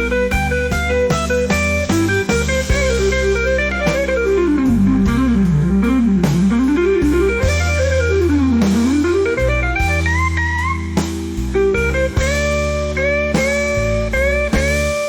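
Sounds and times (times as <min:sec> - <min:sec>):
instrumental blues: 0:00.0 - 0:15.0
lead line of quick notes: 0:00.0 - 0:15.0
sustained low bass notes: 0:00.0 - 0:15.0.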